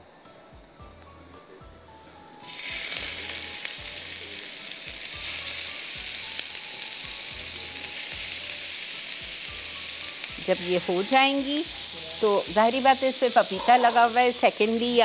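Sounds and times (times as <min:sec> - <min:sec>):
meat sizzling in oil: 0:02.4 - 0:15.0.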